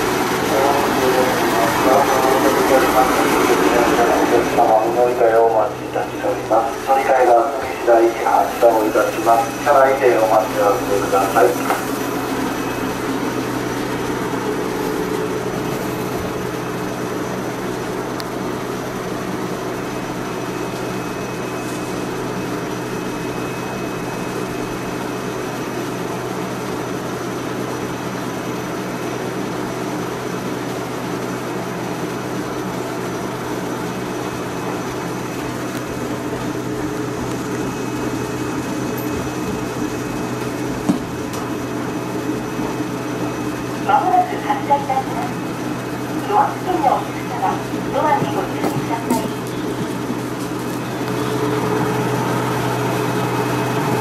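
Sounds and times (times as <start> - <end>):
train equipment hum: 0.0 - 54.0.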